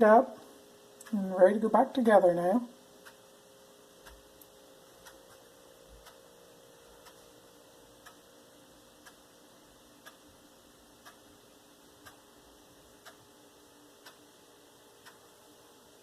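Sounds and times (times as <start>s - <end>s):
faint steady hum: 0.0s - 16.0s
clock-like ticking: 2.9s - 16.0s.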